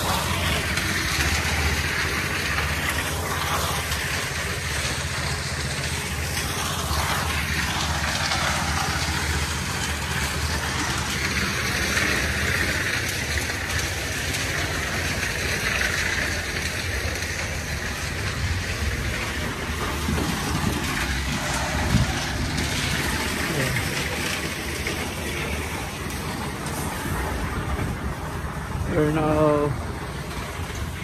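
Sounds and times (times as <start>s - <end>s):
concrete mixer engine droning: 0.0s - 31.0s.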